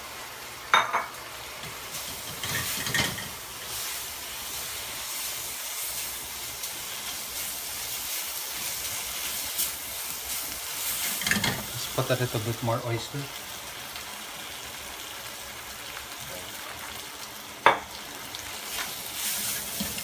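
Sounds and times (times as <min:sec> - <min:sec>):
food sizzling in a wok: 0:00.0 - 0:20.0.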